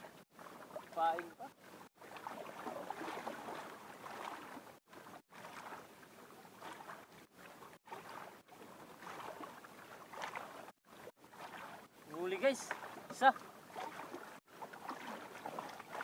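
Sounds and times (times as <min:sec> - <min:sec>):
small waves lapping against hull: 0:00.0 - 0:16.0.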